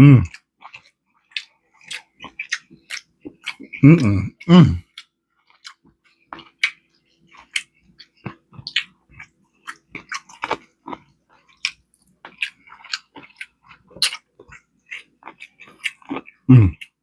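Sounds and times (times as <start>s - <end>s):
chewing with wet mouth smacks: 0.3s - 4.1s, 4.8s - 17.0s.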